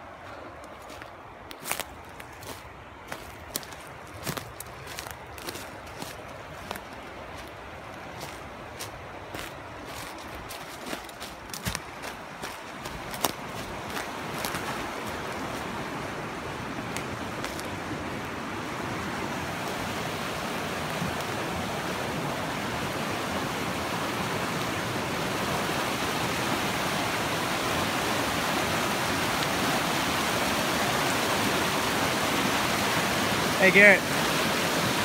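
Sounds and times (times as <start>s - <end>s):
mountain stream rushing over rocks: 0.0s - 35.0s.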